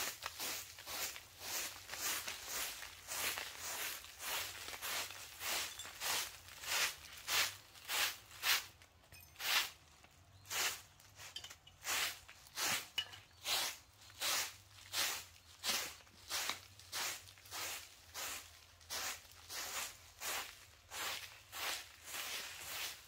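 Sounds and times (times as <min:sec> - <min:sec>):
broom sweeping dirt: 0:00.0 - 0:23.0.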